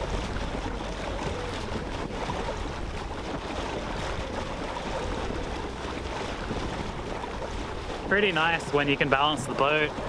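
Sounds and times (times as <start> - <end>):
water rushing past a hull: 0.0 - 10.0
wind: 0.0 - 10.0.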